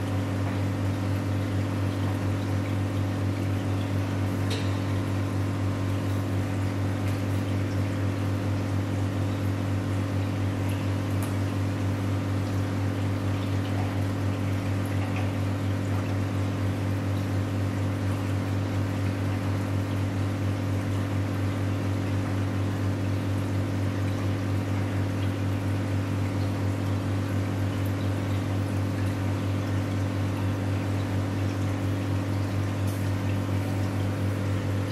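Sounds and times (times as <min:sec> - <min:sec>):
aquarium air stones bubbling: 0:00.0 - 0:34.9
low pump hum: 0:00.0 - 0:34.9.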